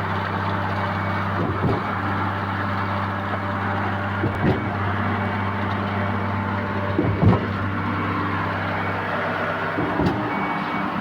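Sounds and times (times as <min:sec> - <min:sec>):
concrete pump engine running: 0:00.0 - 0:11.0.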